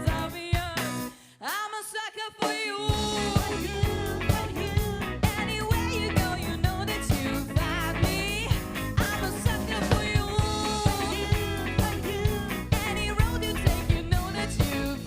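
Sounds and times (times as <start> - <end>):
drum kit beat: 0.0 - 1.6, 2.4 - 15.0
live funk band playing: 0.0 - 1.6, 2.3 - 15.0.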